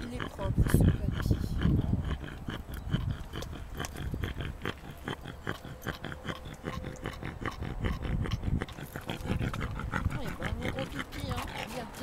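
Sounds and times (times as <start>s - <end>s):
dog sniffing the ground: 0.0s - 12.0s.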